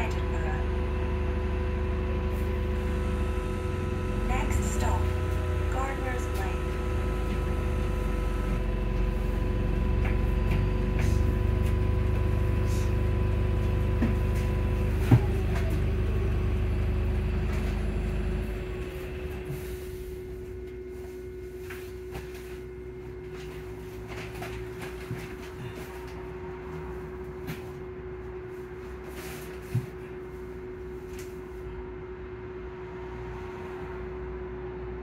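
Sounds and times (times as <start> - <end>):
steady hum: 0.0 - 33.2
bus engine rumble: 0.0 - 35.0.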